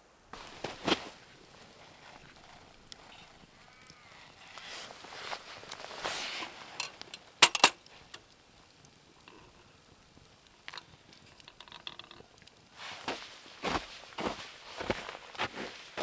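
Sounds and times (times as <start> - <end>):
soft rustling: 0.3 - 8.2, 9.1 - 16.0.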